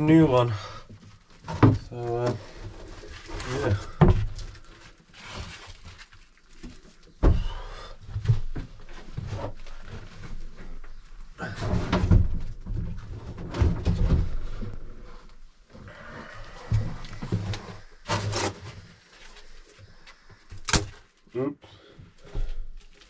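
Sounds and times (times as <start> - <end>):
objects knocking and rustling: 0.9 - 15.9, 16.5 - 21.1.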